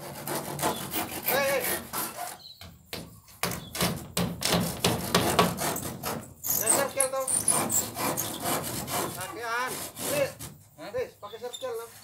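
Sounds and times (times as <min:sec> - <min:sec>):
hand saw cutting wood: 0:00.0 - 0:02.5, 0:03.4 - 0:10.8.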